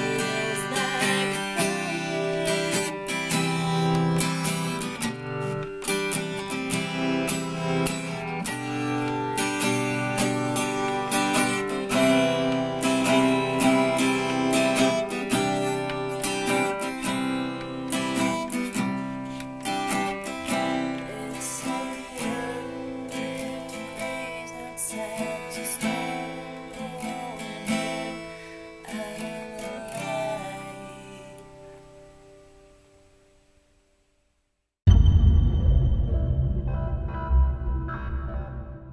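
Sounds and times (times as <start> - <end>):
acoustic guitar strummed: 0.0 - 33.3.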